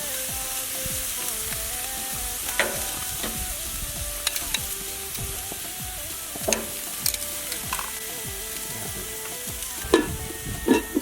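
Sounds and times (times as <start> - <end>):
meat sizzling on a grill: 0.0 - 11.0
sharp crackles: 0.0 - 11.0.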